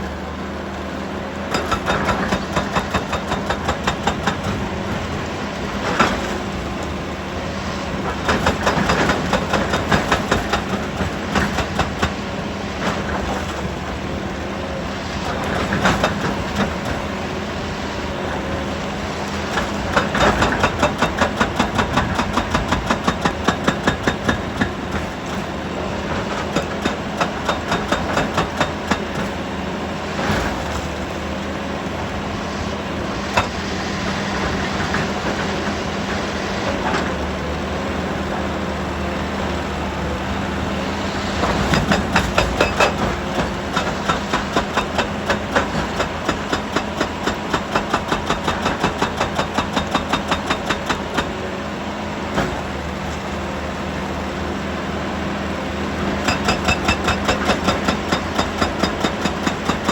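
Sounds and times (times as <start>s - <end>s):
heavy machinery pulsing hum: 0.0s - 59.9s.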